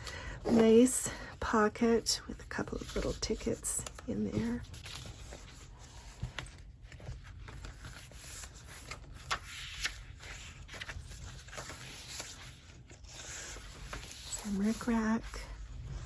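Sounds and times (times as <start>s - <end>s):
paper rustling and scraping: 1.8s - 16.0s.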